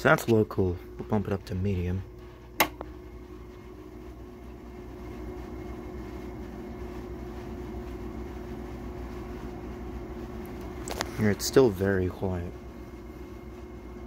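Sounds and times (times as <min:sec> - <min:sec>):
air conditioner fan running: 0:00.0 - 0:14.0.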